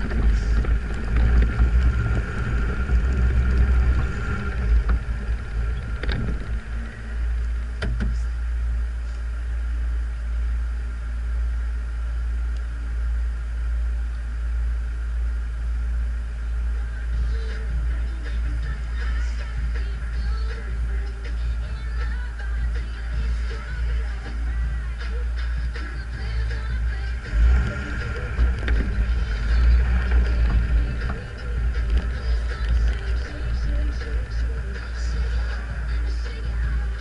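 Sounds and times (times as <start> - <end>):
off-road vehicle engine rumbling: 0.0 - 37.0.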